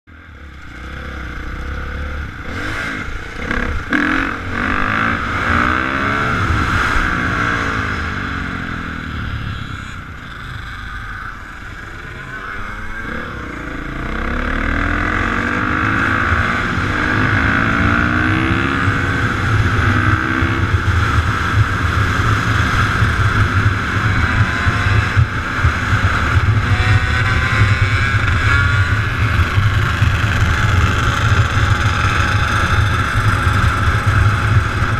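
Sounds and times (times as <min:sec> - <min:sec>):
dirt bike engines revving: 0:00.1 - 0:34.9
low engine drone: 0:00.1 - 0:34.9.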